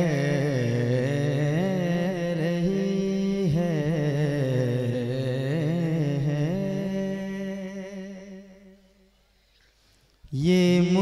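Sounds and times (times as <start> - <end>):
man singing: 0.0 - 8.7, 10.3 - 11.0.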